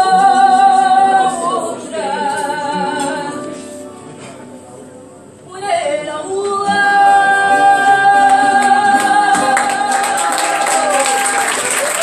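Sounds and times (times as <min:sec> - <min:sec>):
woman singing: 0:00.0 - 0:03.8, 0:05.5 - 0:11.4
plucked guitar: 0:00.0 - 0:05.1, 0:06.1 - 0:10.9.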